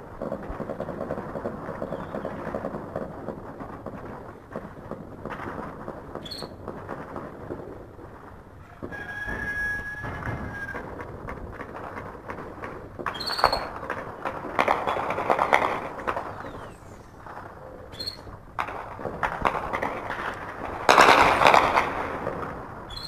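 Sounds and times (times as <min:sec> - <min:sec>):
distant automatic gunfire: 0:00.0 - 0:07.8, 0:08.8 - 0:23.0.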